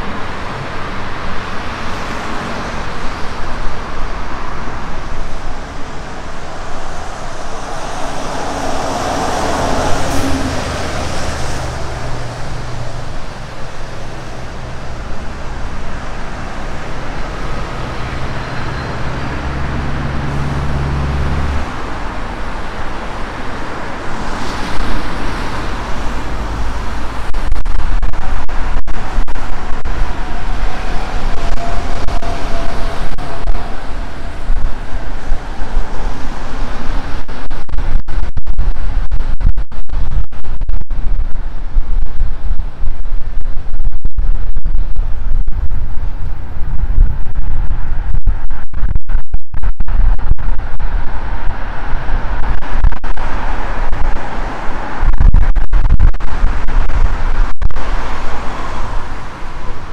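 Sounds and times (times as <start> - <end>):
low engine hum: 0.0 - 59.9
road traffic: 0.0 - 59.9
wind buffeting microphone: 0.0 - 59.9.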